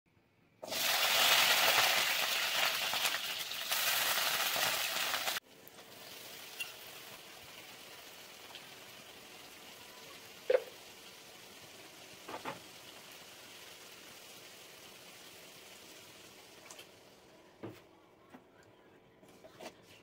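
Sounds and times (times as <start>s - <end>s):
shallots sizzling in hot oil: 0.6s - 17.2s.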